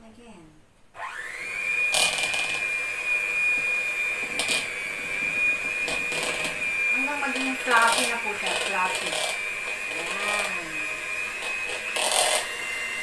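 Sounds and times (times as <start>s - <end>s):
electric hand mixer whine: 0.9s - 13.0s
beaters rasping in bowl: 1.5s - 13.0s.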